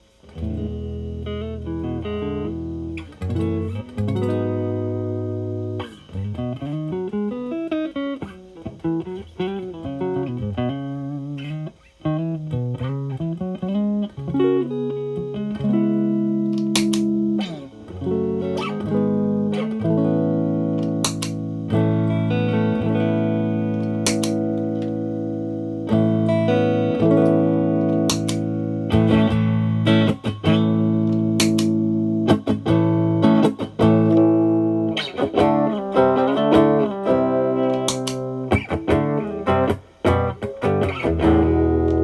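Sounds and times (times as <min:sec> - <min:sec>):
clean electric guitar strumming chords: 0:00.0 - 0:42.0
overdriven guitar chords ringing: 0:00.0 - 0:42.0.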